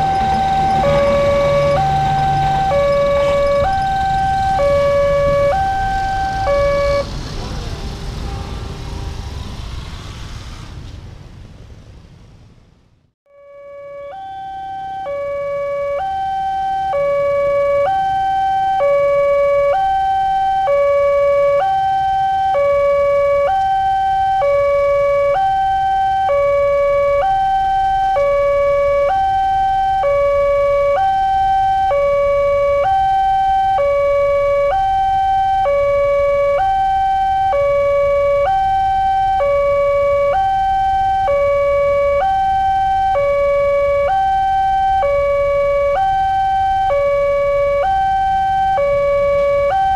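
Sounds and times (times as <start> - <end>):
level crossing two-tone alarm: 0.0 - 7.1, 13.3 - 49.9.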